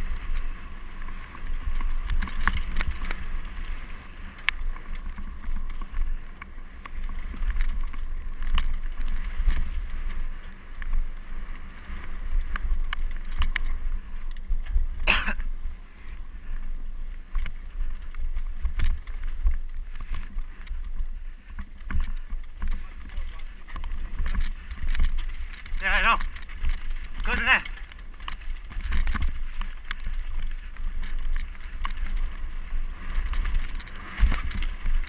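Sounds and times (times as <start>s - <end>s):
bike rattling: 0.0s - 35.0s.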